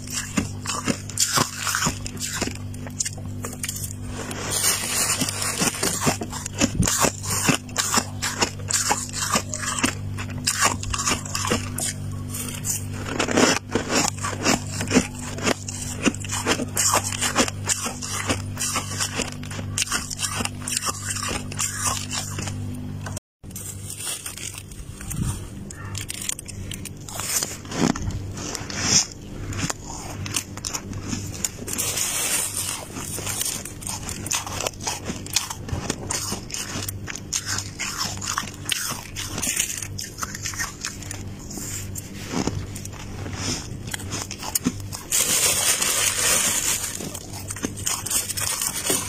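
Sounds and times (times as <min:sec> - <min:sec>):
frost crunching: 0:00.0 - 0:49.0
low steady hum: 0:00.0 - 0:49.0.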